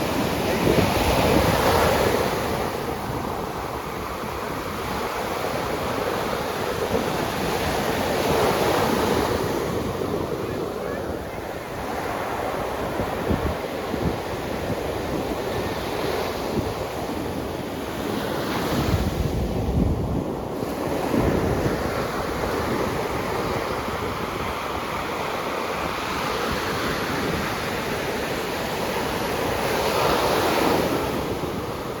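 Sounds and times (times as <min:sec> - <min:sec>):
sea waves breaking on shore: 0:00.0 - 0:32.0
wind buffeting microphone: 0:00.0 - 0:32.0.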